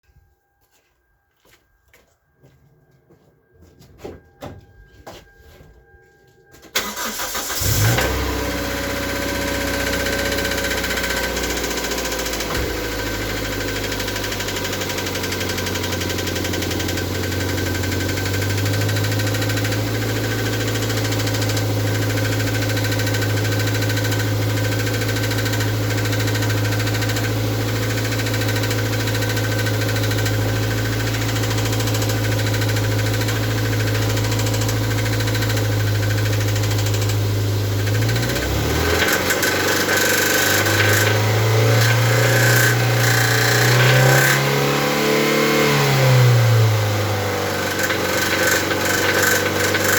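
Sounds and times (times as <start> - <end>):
car engine idling with knock: 7.7 - 49.9.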